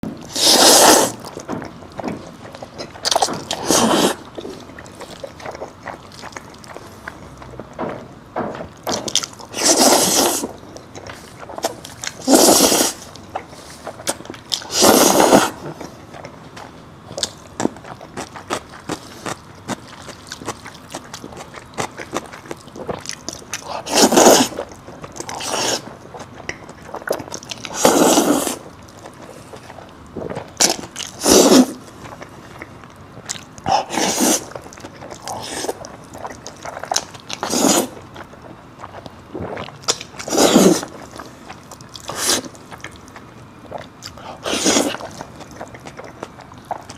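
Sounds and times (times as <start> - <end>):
chewing and mouth clicks: 0.0 - 46.9.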